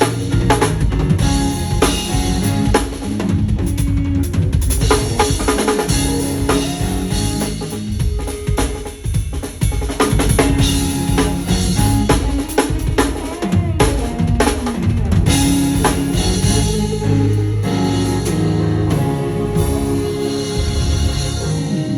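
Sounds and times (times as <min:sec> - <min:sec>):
drum kit played hard: 0:00.0 - 0:21.9
gospel backing track: 0:00.0 - 0:21.9.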